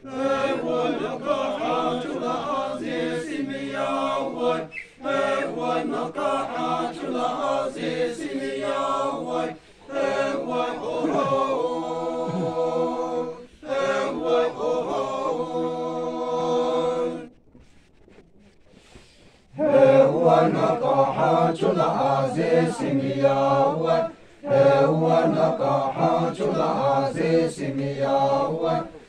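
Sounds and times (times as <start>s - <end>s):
men chanting together: 0.0s - 17.2s, 19.6s - 29.0s.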